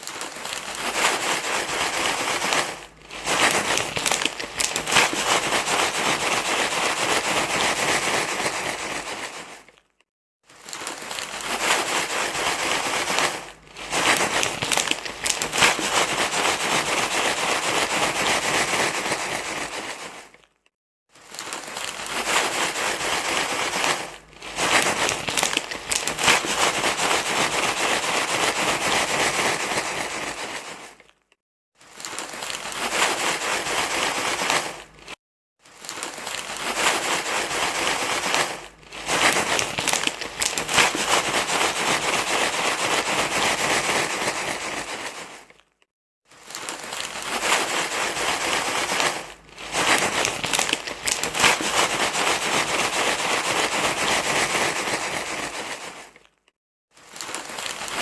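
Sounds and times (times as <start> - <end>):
crinkling and rustling: 0.0 - 58.0.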